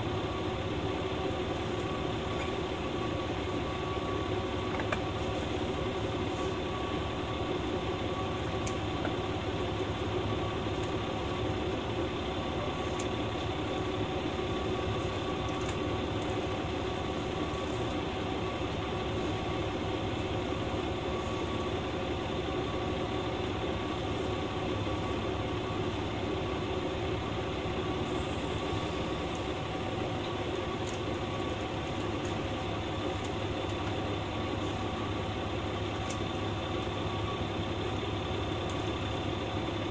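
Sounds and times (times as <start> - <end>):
diesel railcar engine idling: 0.0 - 39.9.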